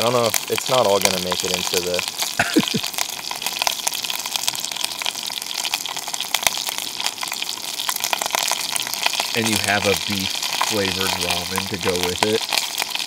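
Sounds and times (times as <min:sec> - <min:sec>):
crackles of spattering fat: 0:00.0 - 0:13.0
meat sizzling in fat: 0:00.0 - 0:13.0.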